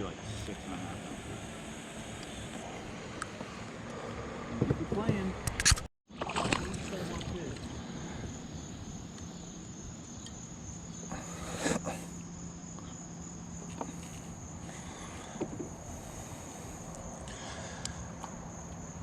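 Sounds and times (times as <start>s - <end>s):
crickets chirring: 0.0s - 5.3s, 6.2s - 19.0s.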